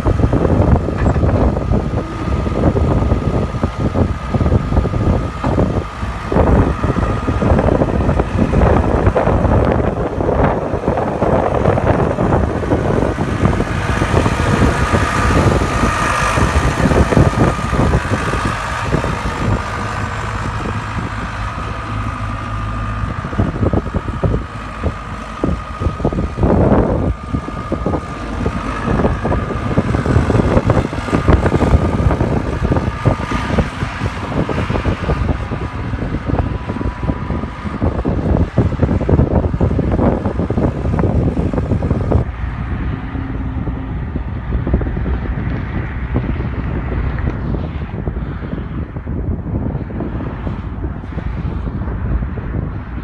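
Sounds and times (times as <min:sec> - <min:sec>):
steady whine: 0:00.0 - 0:48.2
diesel engine running: 0:00.0 - 0:53.0.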